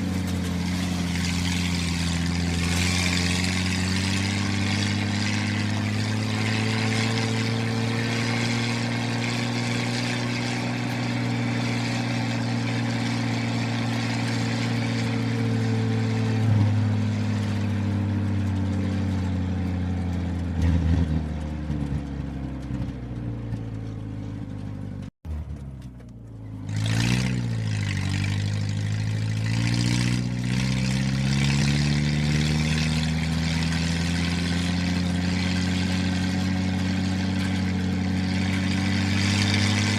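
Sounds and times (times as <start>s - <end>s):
toy jeep engine humming: 0.0s - 24.2s, 25.3s - 39.9s.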